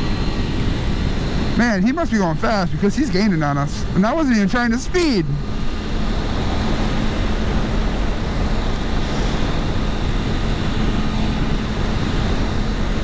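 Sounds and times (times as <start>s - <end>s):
motorcycle engine cruising hum: 0.0s - 13.0s
wind rushing over microphone: 0.0s - 13.0s.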